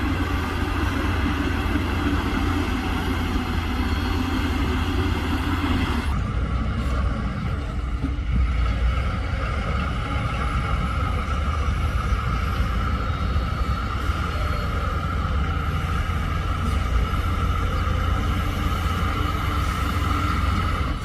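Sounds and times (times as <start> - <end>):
diesel engine rumbling: 0.0 - 21.0
engine whine: 0.0 - 21.0.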